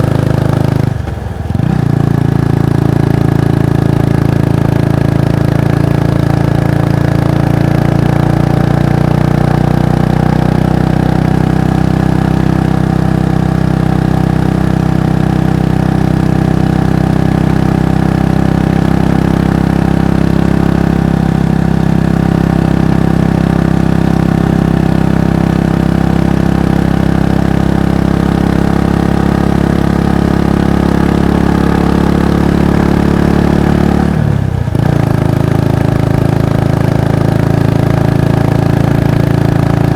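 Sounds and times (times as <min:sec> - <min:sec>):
motorcycle exhaust running: 0:00.0 - 0:39.9.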